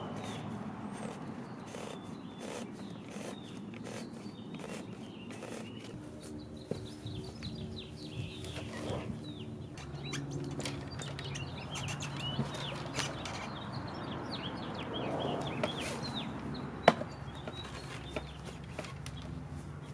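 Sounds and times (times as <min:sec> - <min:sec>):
songbirds chirping: 0:00.0 - 0:19.9.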